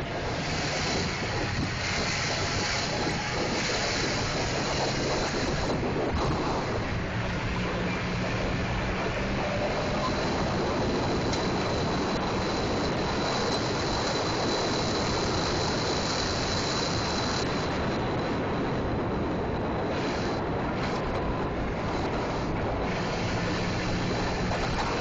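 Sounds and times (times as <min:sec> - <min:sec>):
bus engine running: 0:00.0 - 0:25.0
rushing wind: 0:00.0 - 0:25.0.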